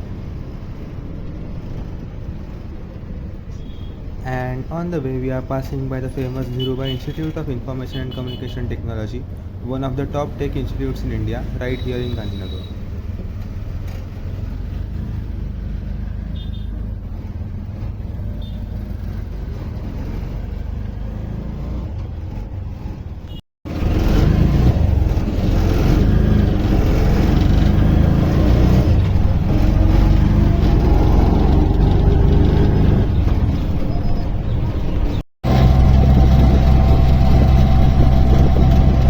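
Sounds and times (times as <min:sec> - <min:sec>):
auto-rickshaw engine running: 0:00.0 - 0:39.0
road and traffic noise: 0:00.0 - 0:39.0.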